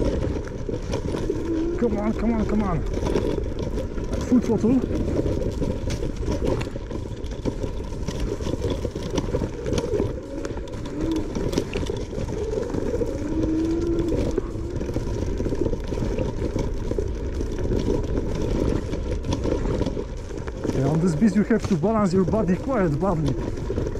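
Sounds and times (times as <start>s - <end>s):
knocks and rattles from bumps: 0.0s - 23.9s
wind and riding rumble: 0.0s - 23.9s.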